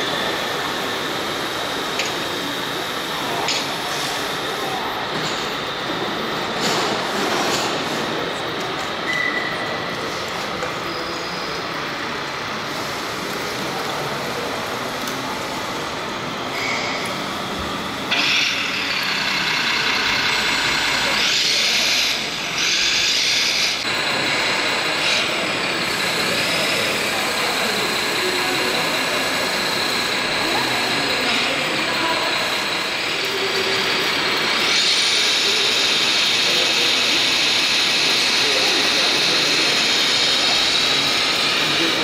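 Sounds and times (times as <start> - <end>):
exhibition hall noise: 0.0 - 42.0.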